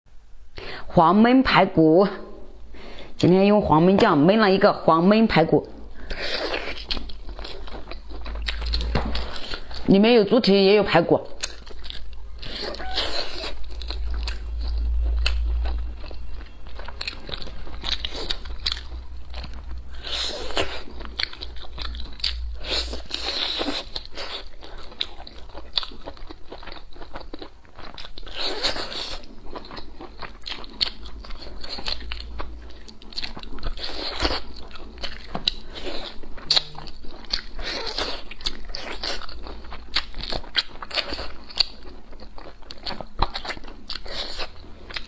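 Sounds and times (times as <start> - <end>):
person chewing meat off bone: 6.0 - 9.9, 11.4 - 45.0.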